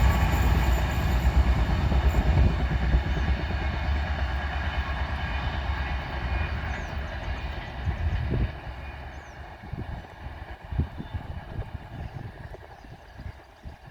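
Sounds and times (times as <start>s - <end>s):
train rumbling past: 0.0s - 12.4s.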